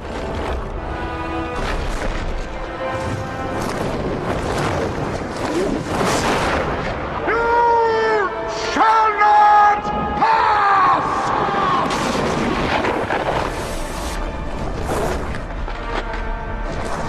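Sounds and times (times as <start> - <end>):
orchestral music: 0.0 - 17.0.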